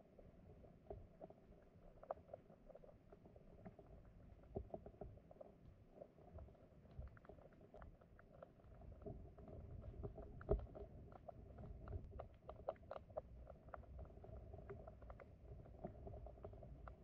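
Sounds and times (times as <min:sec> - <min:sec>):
stream current heard underwater: 0:00.0 - 0:17.0
small irregular clicks: 0:00.2 - 0:17.0.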